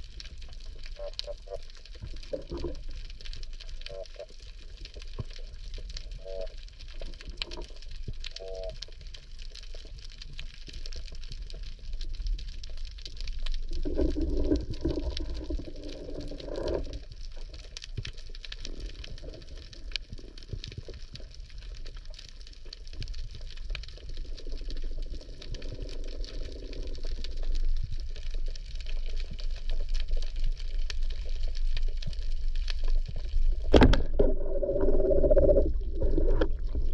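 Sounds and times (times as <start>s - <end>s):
crackle of tiny underwater clicks: 0.0s - 36.9s
low underwater rumble: 0.0s - 36.9s.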